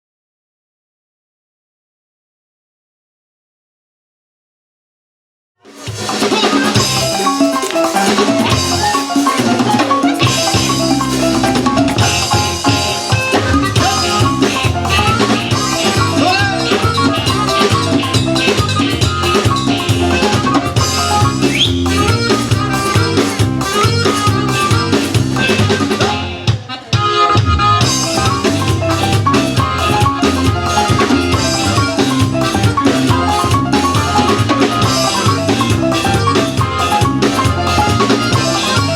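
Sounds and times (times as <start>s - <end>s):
live band playing: 5.6s - 38.9s
bass line: 6.3s - 26.5s, 27.2s - 38.9s.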